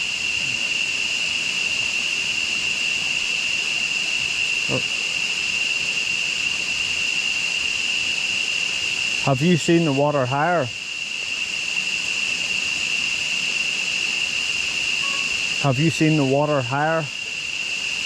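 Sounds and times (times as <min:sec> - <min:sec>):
jungle insects droning: 0:00.0 - 0:18.0.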